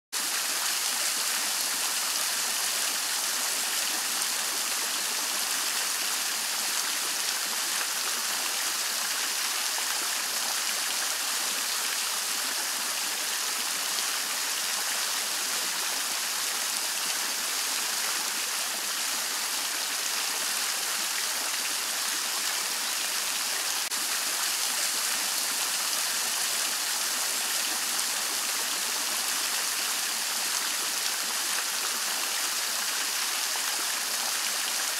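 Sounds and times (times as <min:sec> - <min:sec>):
fountain water splashing: 0:00.2 - 0:34.9.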